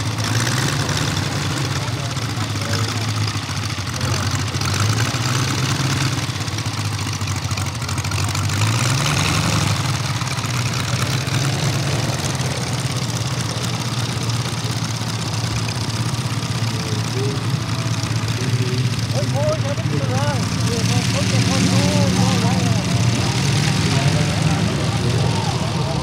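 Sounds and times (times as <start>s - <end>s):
propeller noise: 0.0s - 26.0s
radial engine running: 0.0s - 26.0s.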